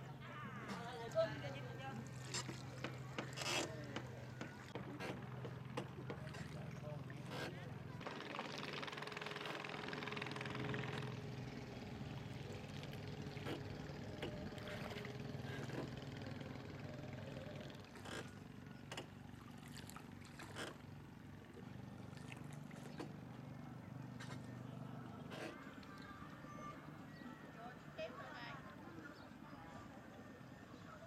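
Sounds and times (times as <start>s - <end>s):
small boat motor running: 0.0s - 31.0s.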